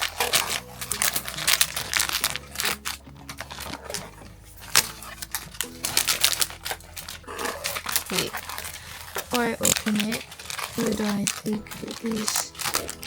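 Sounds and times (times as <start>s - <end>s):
light background music: 0.0s - 13.0s
plastic packaging crinkling: 0.0s - 13.0s.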